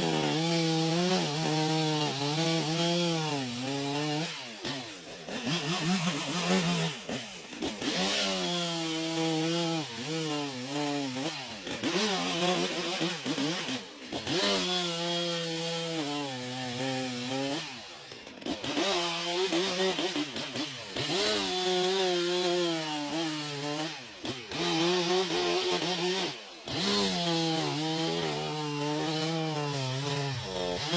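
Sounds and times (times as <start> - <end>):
chainsaw revving and cutting wood: 0.0 - 30.9.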